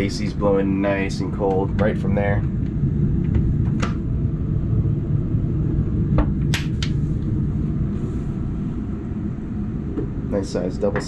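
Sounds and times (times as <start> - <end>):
air conditioning rumble: 0.0 - 11.0.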